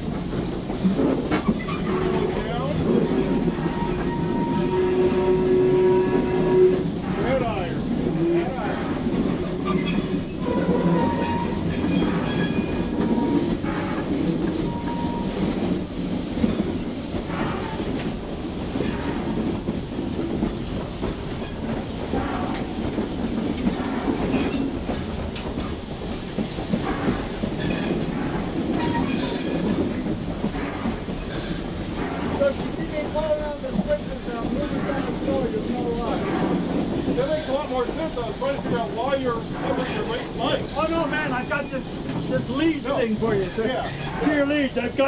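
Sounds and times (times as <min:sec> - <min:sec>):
steam locomotive rumble: 0:00.0 - 0:45.0
running gear clanks and knocks: 0:08.3 - 0:44.8.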